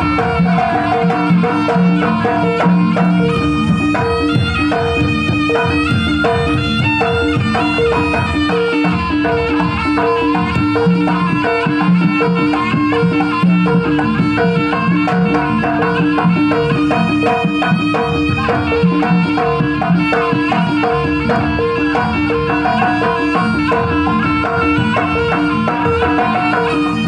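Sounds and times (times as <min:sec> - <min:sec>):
hand drumming: 0:00.0 - 0:27.0.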